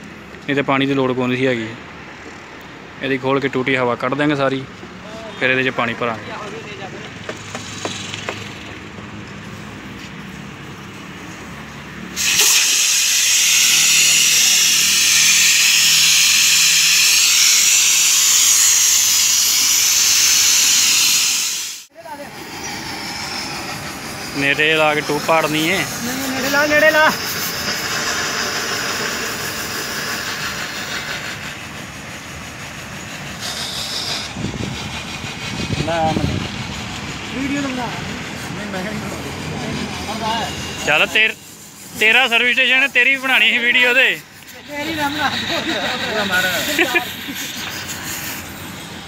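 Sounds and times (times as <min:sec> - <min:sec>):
air hissing out of tyre: 0:07.1 - 0:49.0.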